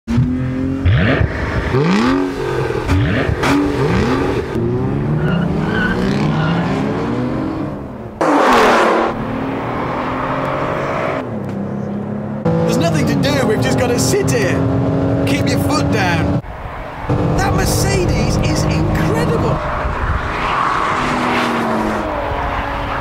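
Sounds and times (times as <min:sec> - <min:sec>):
car engines revving and accelerating: 0:00.1 - 0:23.0.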